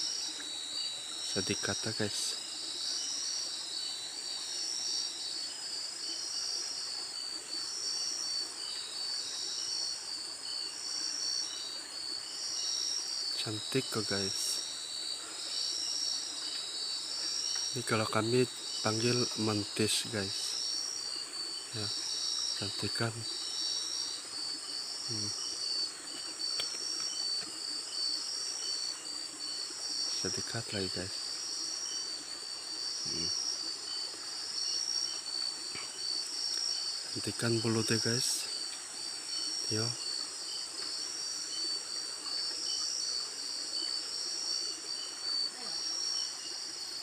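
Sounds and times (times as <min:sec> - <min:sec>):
shrill insect chorus: 0:00.0 - 0:47.0.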